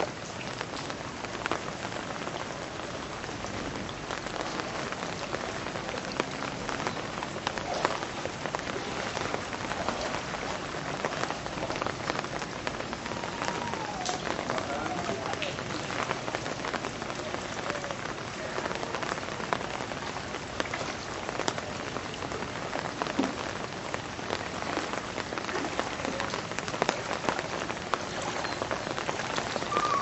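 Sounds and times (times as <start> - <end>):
raindrops hitting surfaces: 0.0 - 30.0
steady rainfall hiss: 0.0 - 30.0.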